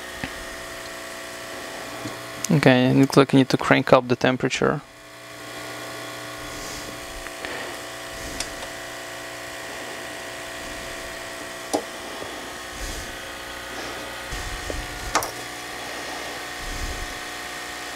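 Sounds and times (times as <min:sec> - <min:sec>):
heat gun fan whine and air rush: 0:00.0 - 0:17.9.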